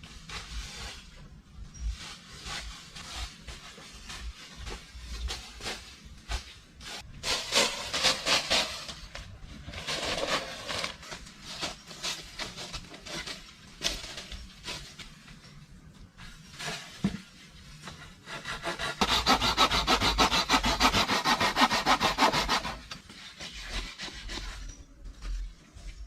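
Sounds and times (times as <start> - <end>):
scraping and rubbing on wood: 0.0 - 26.0.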